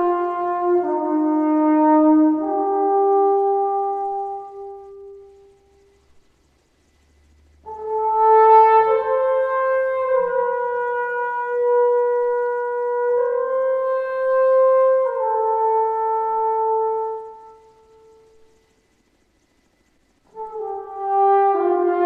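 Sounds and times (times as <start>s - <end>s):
solo brass horn melody: 0.0s - 5.9s, 7.6s - 18.6s, 20.3s - 22.0s.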